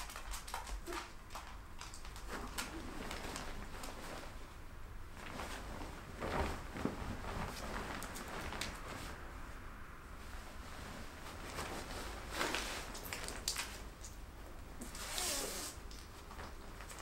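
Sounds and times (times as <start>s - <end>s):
duvet fabric rustling: 0.6s - 17.0s.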